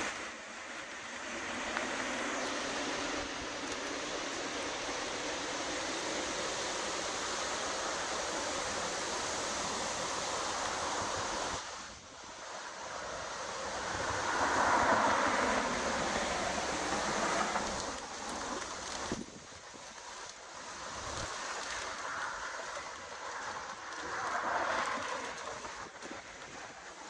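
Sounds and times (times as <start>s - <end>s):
wind rustling leafy trees: 0.0s - 27.0s.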